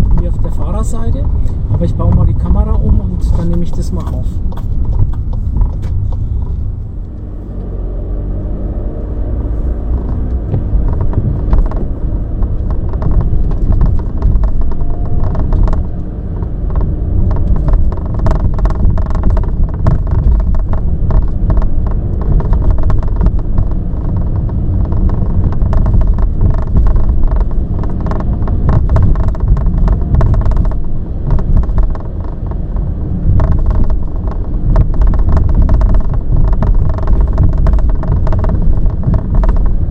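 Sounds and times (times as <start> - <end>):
trim rattling and clicking: 0.0 - 7.2, 9.8 - 39.9
low road rumble: 0.0 - 39.9.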